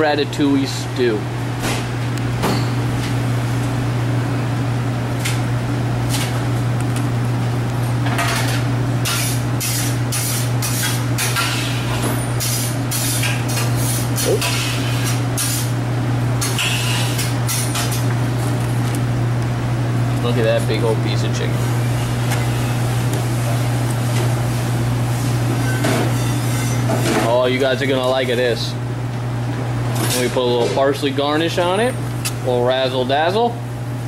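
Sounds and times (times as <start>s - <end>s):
kitchen equipment hum: 0.0s - 34.0s.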